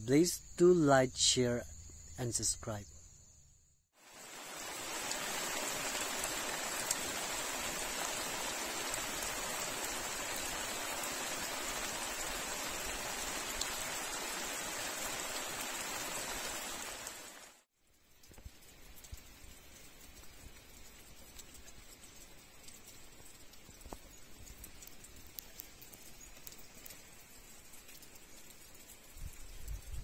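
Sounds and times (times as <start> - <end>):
steady rainfall: 4.0 - 30.0.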